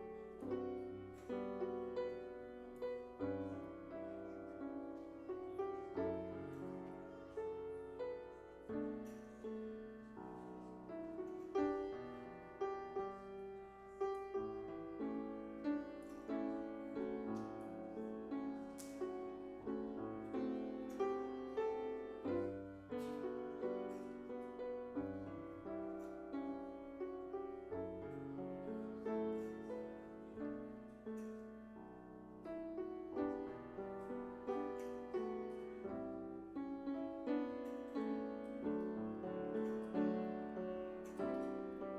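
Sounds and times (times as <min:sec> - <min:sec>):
solo piano music: 0:00.0 - 0:41.9.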